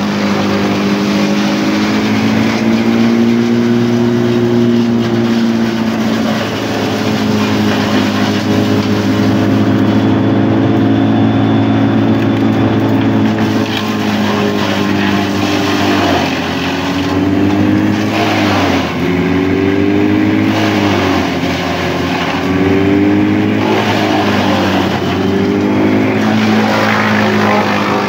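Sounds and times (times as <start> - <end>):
wood chipper engine: 0.0 - 28.0.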